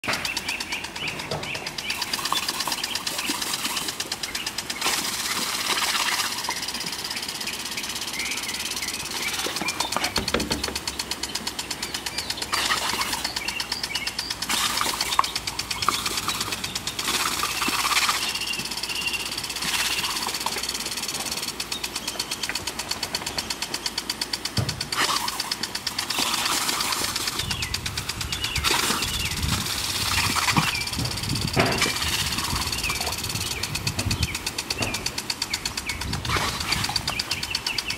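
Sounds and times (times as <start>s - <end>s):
sprinkler ticking: 0.0s - 37.9s
water spray hissing: 1.6s - 37.9s.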